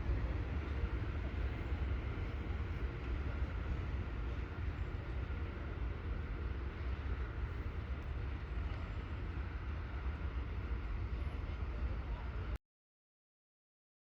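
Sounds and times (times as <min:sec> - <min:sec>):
freight train rumbling by: 0:00.0 - 0:12.6.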